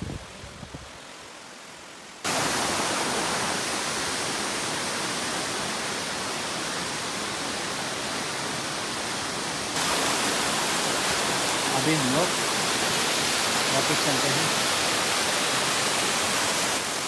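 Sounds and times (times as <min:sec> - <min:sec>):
waterfall rushing: 0:02.2 - 0:17.0.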